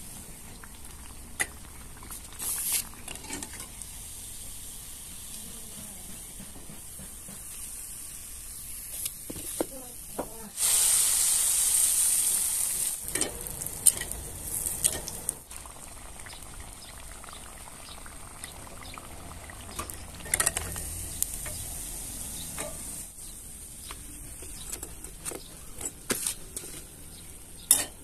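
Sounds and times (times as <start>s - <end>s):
batter deep-frying in oil: 0.0s - 28.0s.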